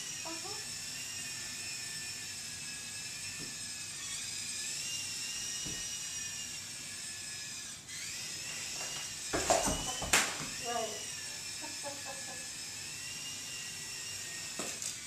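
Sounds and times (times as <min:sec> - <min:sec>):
toy helicopter motor and rotor whining: 0:00.0 - 0:15.0.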